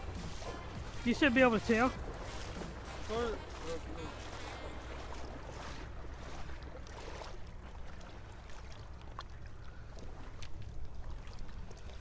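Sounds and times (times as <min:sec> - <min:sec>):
water lapping: 0:00.0 - 0:12.0.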